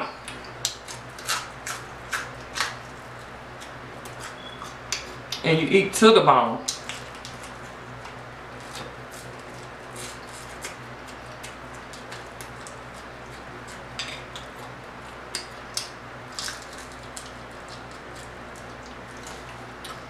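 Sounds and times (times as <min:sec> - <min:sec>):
steady low hum: 0:00.0 - 0:20.0
chewing with mouth clicks: 0:00.2 - 0:05.4, 0:06.7 - 0:20.0
crispy fish crunches: 0:00.6 - 0:05.1, 0:06.7 - 0:20.0.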